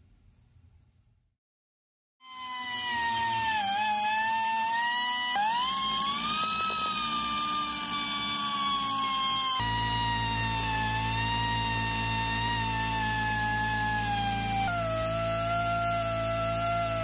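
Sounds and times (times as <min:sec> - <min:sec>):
rotary tool grinding metal: 0:02.3 - 0:17.0.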